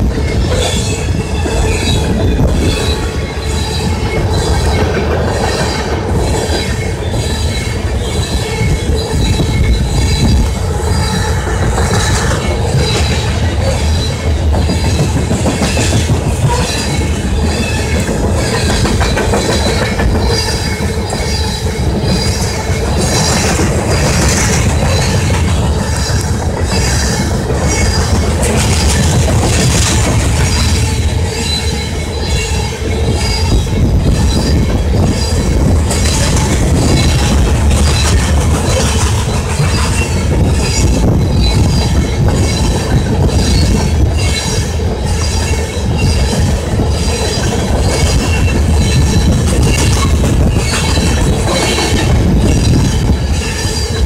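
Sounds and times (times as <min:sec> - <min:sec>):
freight train rumbling past: 0:00.0 - 0:54.0
wheel squeal: 0:00.0 - 0:54.0
wheels clicking over rail joints: 0:00.0 - 0:54.0.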